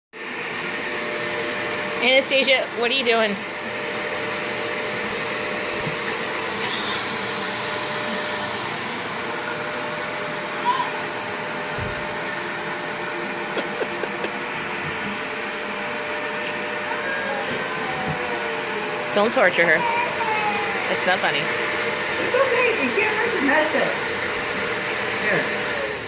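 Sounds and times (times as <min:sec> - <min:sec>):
vacuum cleaner running: 0:00.2 - 0:26.0.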